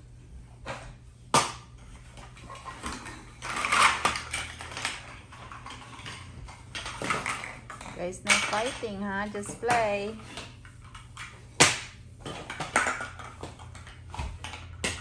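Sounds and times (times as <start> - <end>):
hard objects clattering: 0.6 - 15.0.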